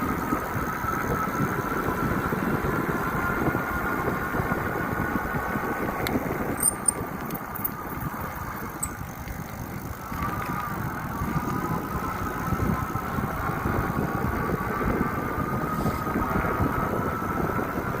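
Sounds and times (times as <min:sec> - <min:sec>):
bike riding rumble: 0:00.0 - 0:18.0.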